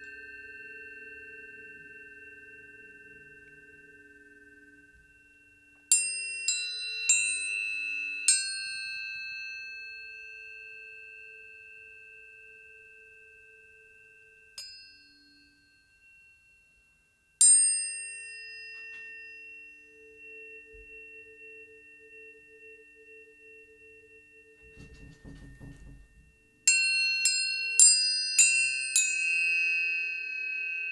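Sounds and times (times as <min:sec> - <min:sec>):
tuning forks struck and ringing: 0:00.0 - 0:25.4, 0:26.6 - 0:30.9.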